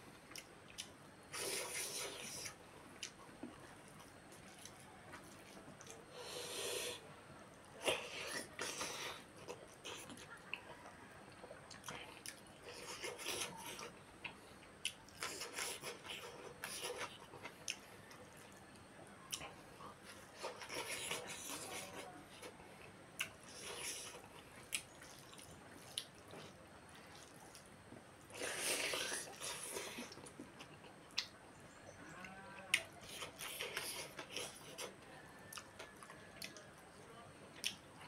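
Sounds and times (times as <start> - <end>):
wet chewing and lip-smacking: 0.3 - 6.4, 7.8 - 31.6, 32.7 - 36.7, 37.6 - 38.0.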